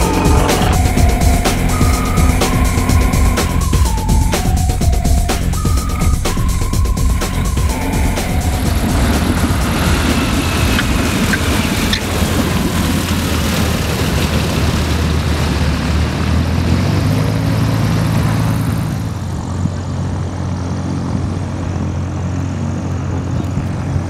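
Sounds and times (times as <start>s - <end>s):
radial aircraft engine and propeller: 0.0s - 24.0s.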